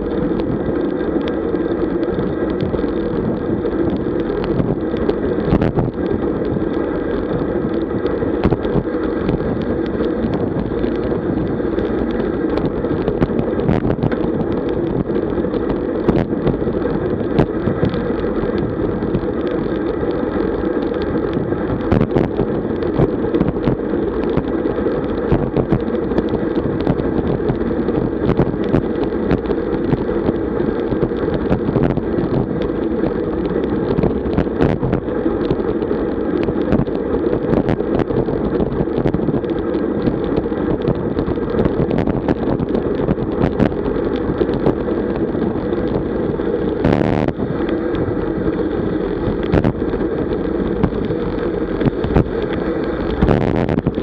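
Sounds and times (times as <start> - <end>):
road noise: 0.0 - 54.0
wind rush on microphone: 0.0 - 54.0.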